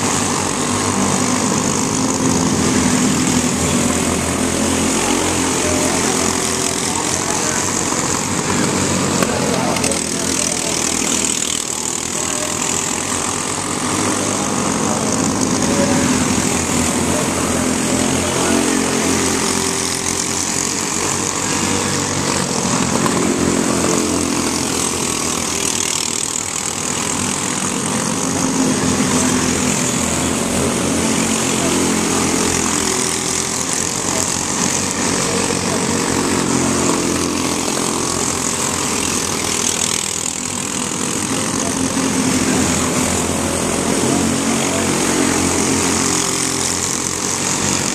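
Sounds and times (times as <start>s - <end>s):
race car engines passing: 0.0s - 47.9s.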